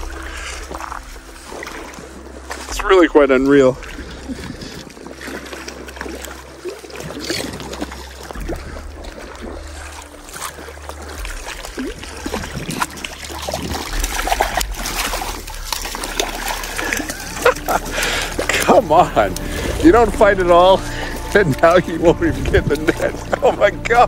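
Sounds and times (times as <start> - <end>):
fish splashing at surface: 0.0 - 2.8, 3.5 - 21.5
waves lapping against rocks: 0.0 - 24.0.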